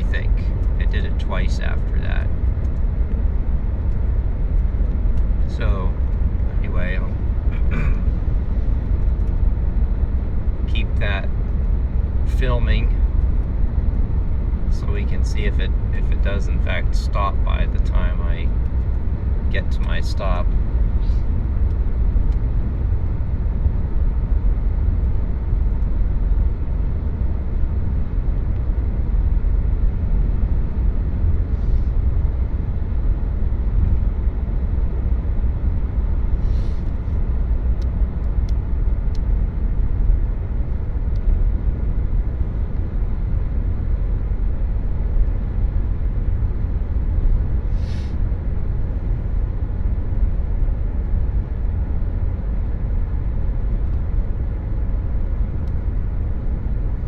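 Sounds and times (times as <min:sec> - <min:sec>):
car cabin engine and road noise: 0:00.0 - 0:57.0.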